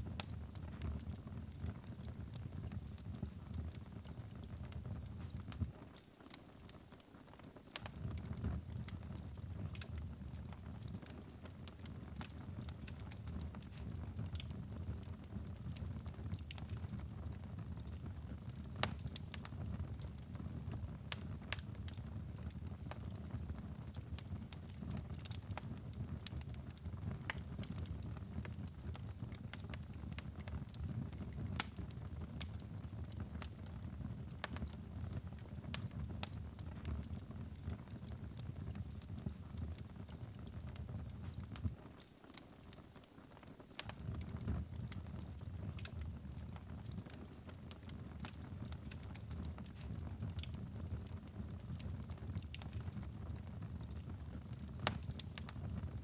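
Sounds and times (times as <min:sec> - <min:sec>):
low rumble of fire flames: 0:00.0 - 0:05.8, 0:07.7 - 0:56.0
wood fire crackles and pops: 0:00.0 - 0:56.0.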